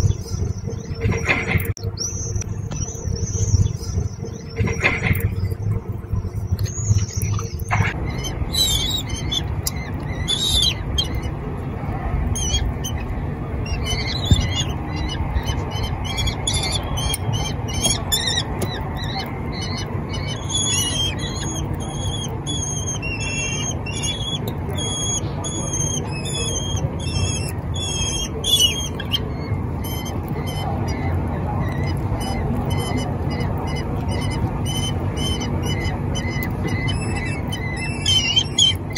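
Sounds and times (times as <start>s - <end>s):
low background rumble: 0.0s - 38.9s
young kestrels calling: 6.4s - 11.4s, 12.3s - 38.9s.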